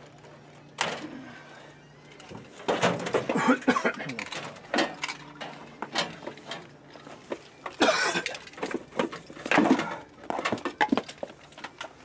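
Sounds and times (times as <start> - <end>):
cables and equipment handled: 2.1 - 12.0.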